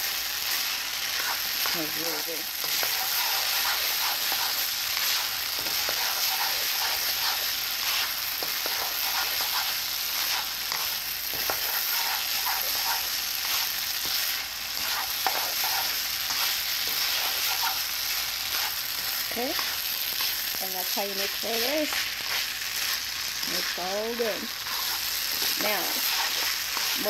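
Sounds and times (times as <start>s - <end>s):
rice sizzling in pan: 0.0s - 27.0s
spatula scraping pan: 0.4s - 27.0s.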